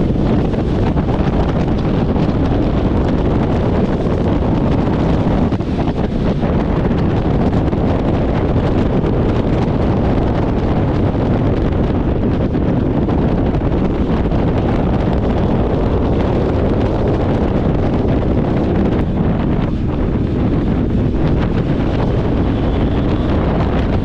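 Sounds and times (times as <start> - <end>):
motorcycle engine and road noise: 0.0 - 24.0
wind buffeting microphone: 0.0 - 24.0.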